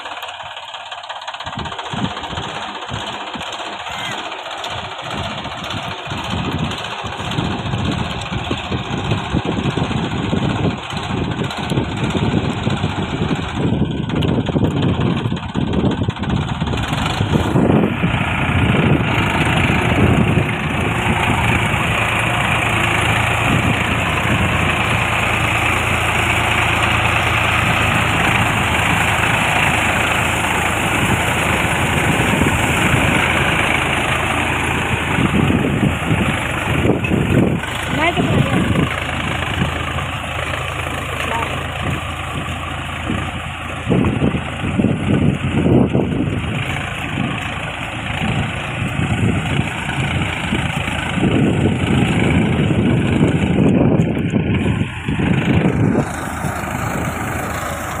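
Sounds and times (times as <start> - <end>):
tiller churning through mud: 0.0 - 58.0
tractor engine running: 0.0 - 58.0.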